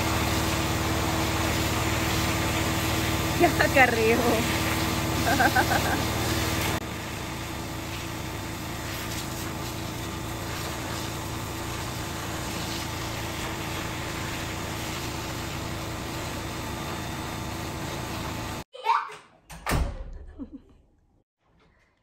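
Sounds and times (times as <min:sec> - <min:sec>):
pressure washer motor humming: 0:00.0 - 0:18.6
water jet hissing on paving: 0:00.0 - 0:18.6.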